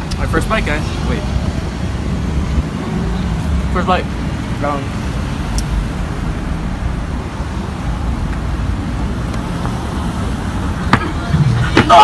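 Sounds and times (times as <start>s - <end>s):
steady low rumble: 0.0s - 11.9s
cars passing: 0.0s - 12.0s.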